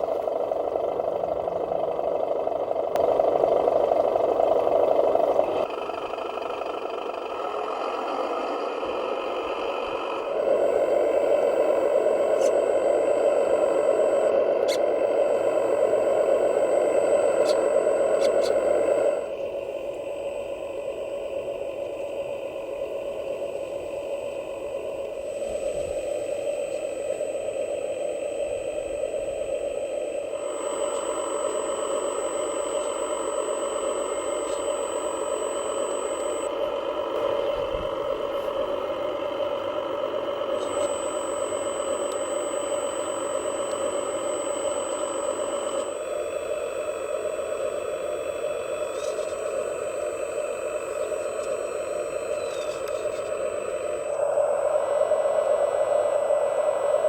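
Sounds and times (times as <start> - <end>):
model truck motors whirring: 0.0 - 54.2.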